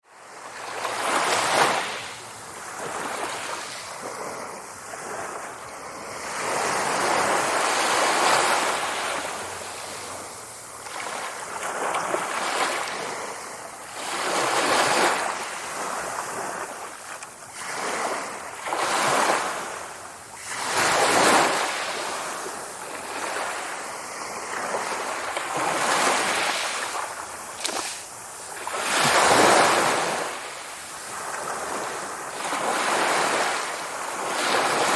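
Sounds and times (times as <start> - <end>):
sea waves surging: 0.1 - 34.9.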